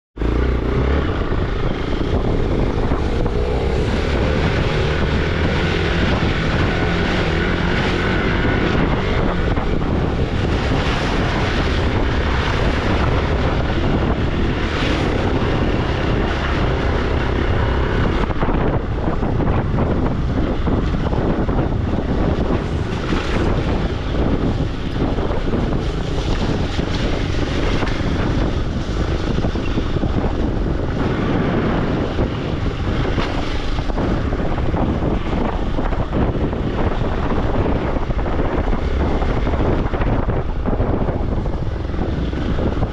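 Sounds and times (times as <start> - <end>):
motorcycle engine running: 0.2 - 42.9
wind buffeting microphone: 0.2 - 42.9.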